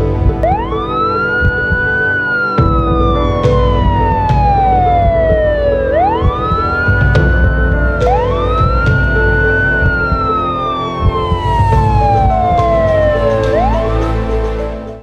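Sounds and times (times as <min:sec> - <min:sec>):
emergency vehicle siren wailing: 0:00.4 - 0:14.8.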